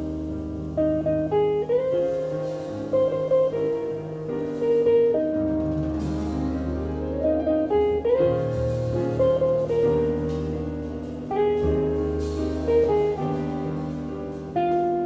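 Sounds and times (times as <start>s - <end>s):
jazz quartet playing: 0.0s - 15.0s.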